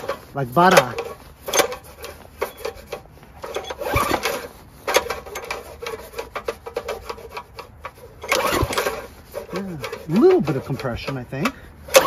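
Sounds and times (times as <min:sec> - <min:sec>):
recoil starter rattling clicks: 0:00.0 - 0:12.0.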